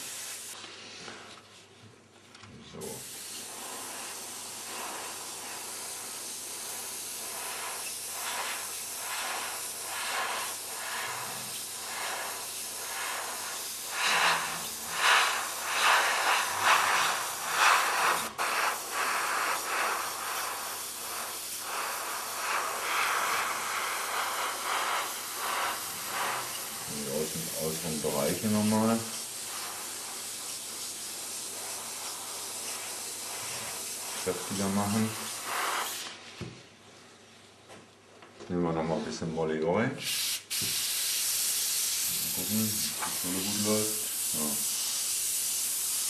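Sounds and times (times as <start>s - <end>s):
airbrush hissing: 0.0s - 0.6s, 2.8s - 36.3s, 40.0s - 46.0s.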